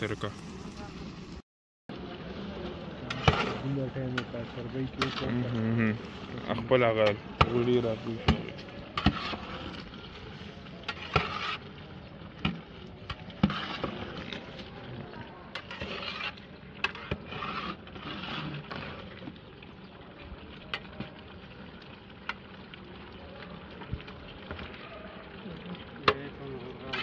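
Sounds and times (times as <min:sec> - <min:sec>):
stirring and scraping in cooking pot: 0:02.2 - 0:22.8, 0:23.6 - 0:27.0.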